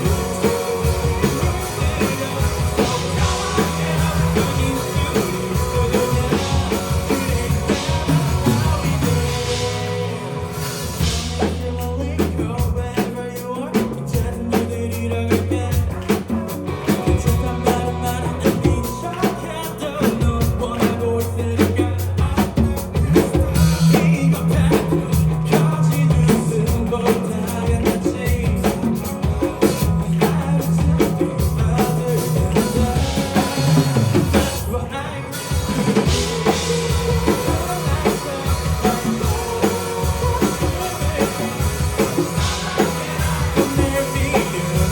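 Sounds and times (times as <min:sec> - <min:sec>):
busy drum kit: 0:00.0 - 0:44.9
live rock band playing: 0:00.0 - 0:44.9.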